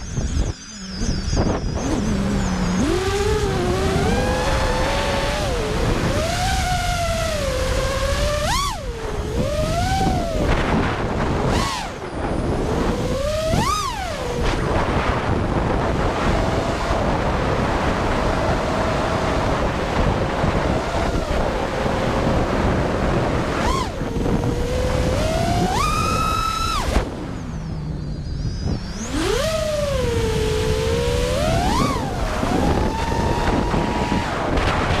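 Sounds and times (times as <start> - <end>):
gusting wind noise: 0.0 - 35.0
quadcopter motors whining: 0.0 - 35.0.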